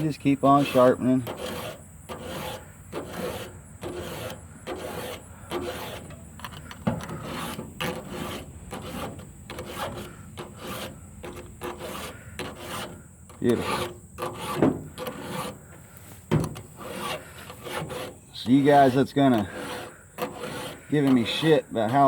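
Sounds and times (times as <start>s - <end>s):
hand file rasping on chainsaw chain: 0.0s - 15.8s, 16.5s - 22.0s.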